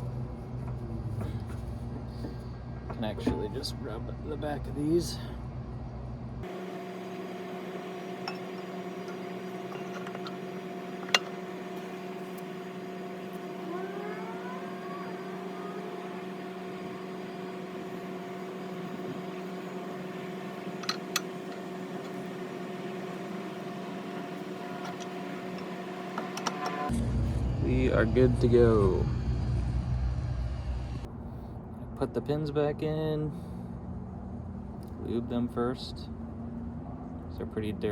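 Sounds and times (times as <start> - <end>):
steady machine hum: 0.0 - 35.4.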